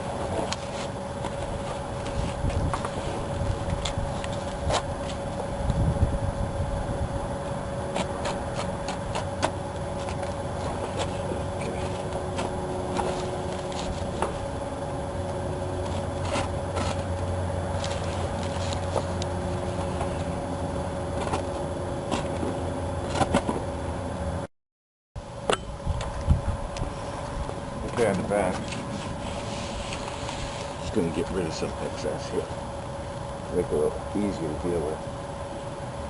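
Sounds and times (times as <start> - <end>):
steady mechanical hum: 0.0 - 24.5, 25.2 - 36.0.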